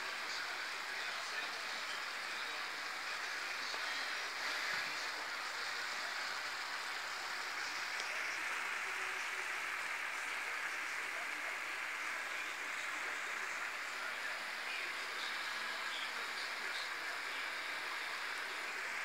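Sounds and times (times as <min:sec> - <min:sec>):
broth sizzling and bubbling: 0:00.0 - 0:19.0.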